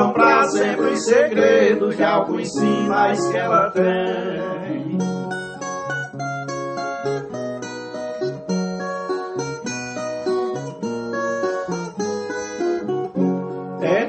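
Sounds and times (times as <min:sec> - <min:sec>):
plucked viola melody: 0:00.0 - 0:14.0.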